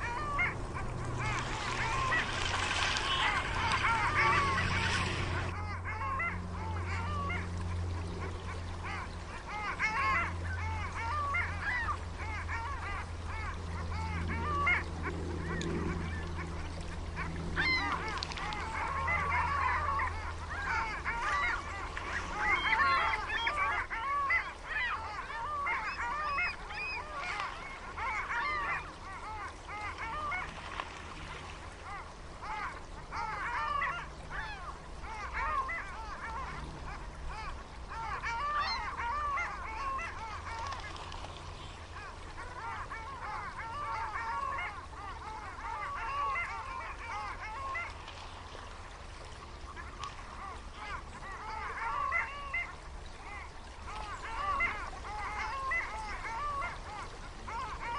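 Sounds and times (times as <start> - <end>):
geese honking: 0.0 - 7.6, 8.3 - 30.8, 31.9 - 40.9, 42.0 - 48.0, 50.5 - 57.9
low steady hum: 0.0 - 57.9.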